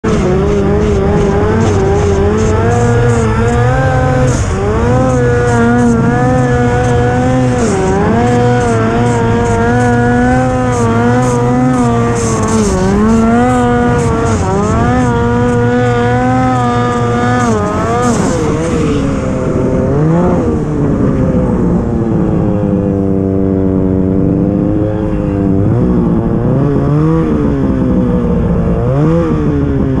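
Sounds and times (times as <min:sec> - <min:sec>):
snowmobile engine revving: 0:00.0 - 0:30.0.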